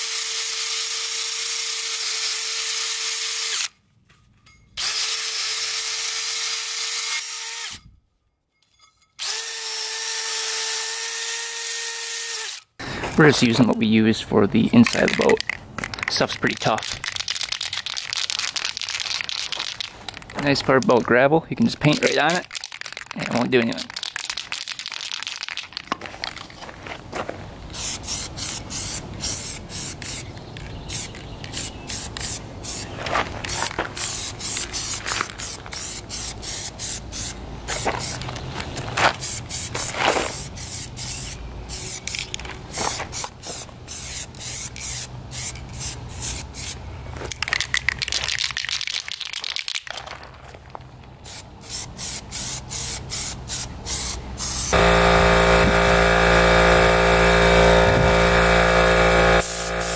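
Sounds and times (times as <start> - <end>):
spray paint can bursts: 0.0 - 3.7, 4.8 - 7.8, 9.2 - 12.7, 14.8 - 21.0, 21.7 - 26.0, 27.7 - 50.1, 51.2 - 59.9.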